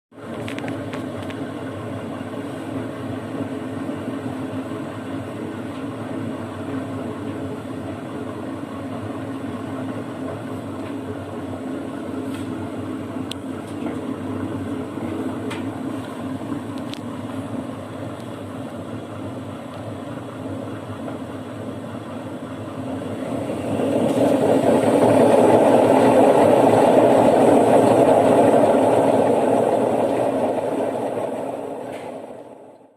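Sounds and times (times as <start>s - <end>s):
washer-dryer humming: 0.2s - 32.9s.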